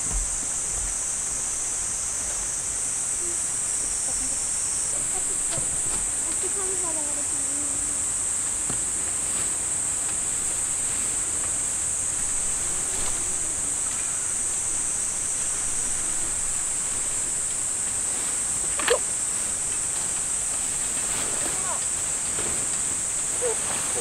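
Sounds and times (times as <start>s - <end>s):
insects chorus: 0.0s - 24.0s
tent fabric rustling: 3.2s - 24.0s.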